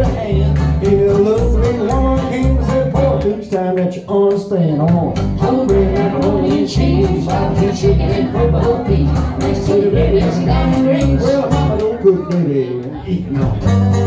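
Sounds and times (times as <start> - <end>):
banjo: 0.0 - 3.7, 4.8 - 14.0
person singing: 0.0 - 13.9
acoustic guitar: 0.0 - 14.0
upright bass: 0.0 - 14.0.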